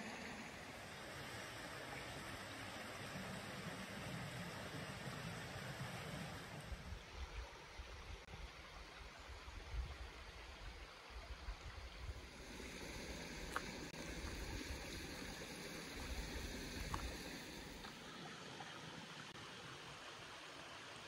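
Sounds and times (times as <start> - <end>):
mountain stream running: 0.0 - 21.0.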